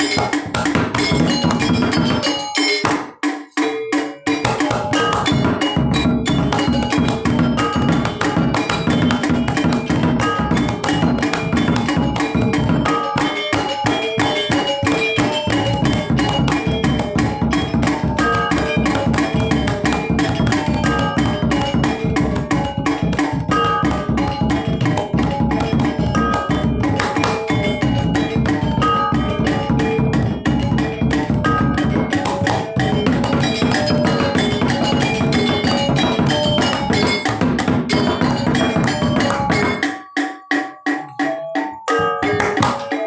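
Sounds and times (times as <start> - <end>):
drums and pitched percussion: 0.0 - 43.0
gamelan music: 0.0 - 43.0.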